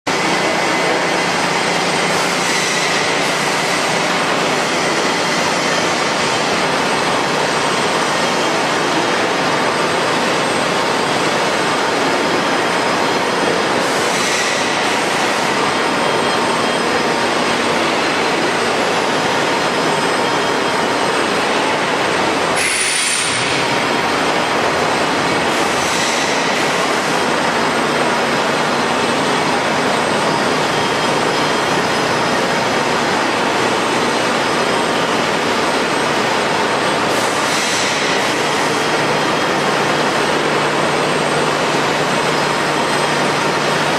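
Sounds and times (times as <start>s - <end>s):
loud industrial machinery noise: 0.0s - 43.9s.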